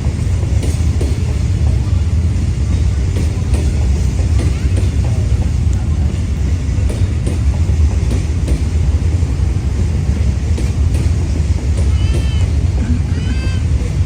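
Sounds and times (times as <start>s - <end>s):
freight train wagons rumbling: 0.0s - 14.0s.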